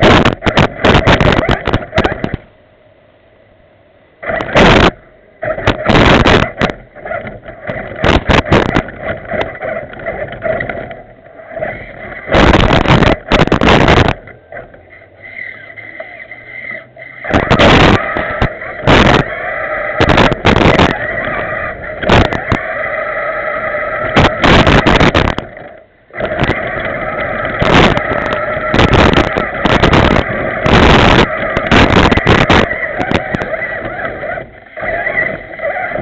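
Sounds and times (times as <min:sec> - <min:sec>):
toy truck electric motor bursts: 0:00.0 - 0:02.4, 0:04.2 - 0:36.0.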